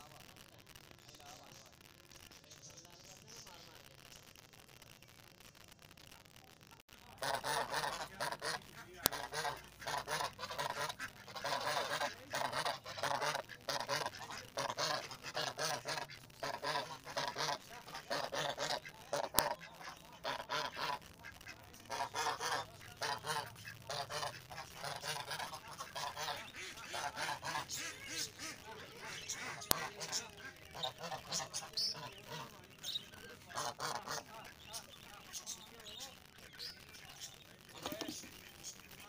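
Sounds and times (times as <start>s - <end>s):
ducks calling: 7.0s - 39.0s
geese honking: 7.0s - 39.0s.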